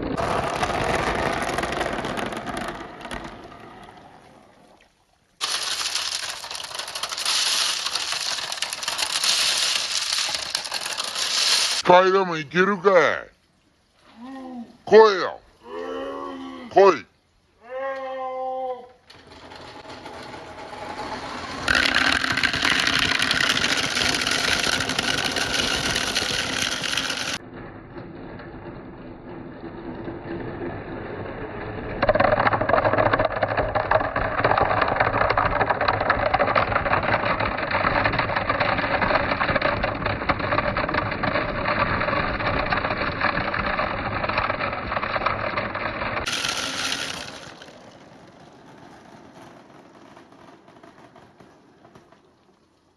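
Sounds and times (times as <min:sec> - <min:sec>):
marbles rolling and rattling: 0:00.0 - 0:04.5, 0:05.4 - 0:13.2, 0:19.1 - 0:27.5, 0:28.5 - 0:52.9.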